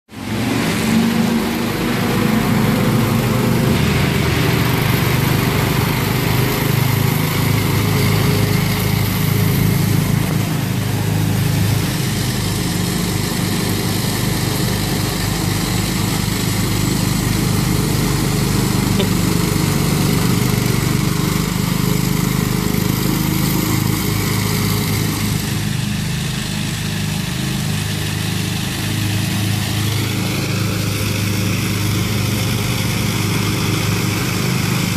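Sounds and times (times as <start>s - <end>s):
riding lawn mower engine running: 0.1s - 34.9s.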